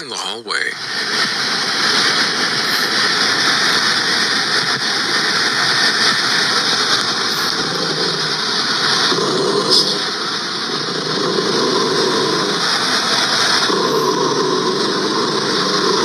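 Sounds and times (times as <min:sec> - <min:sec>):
robot vacuum whirring: 0:00.7 - 0:16.0.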